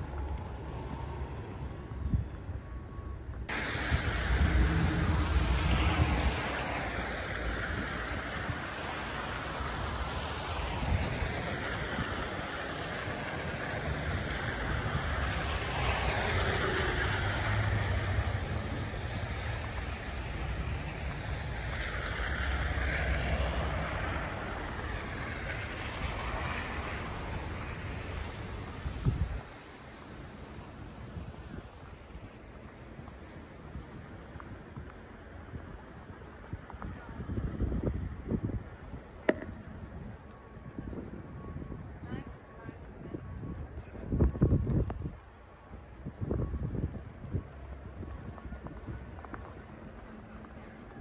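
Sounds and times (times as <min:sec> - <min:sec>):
low engine rumble: 0:00.0 - 0:45.3
wind on microphone: 0:00.0 - 0:51.0
tyres hissing on snowy street: 0:03.2 - 0:41.2, 0:44.0 - 0:51.0.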